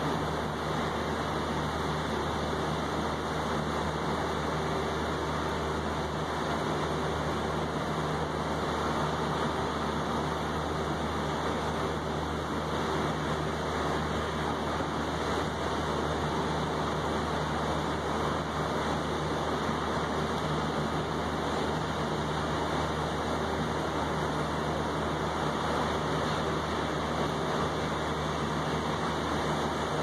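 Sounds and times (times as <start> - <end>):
low steady rumble: 0.0 - 30.0
rain on tabletop and railing: 0.0 - 30.0.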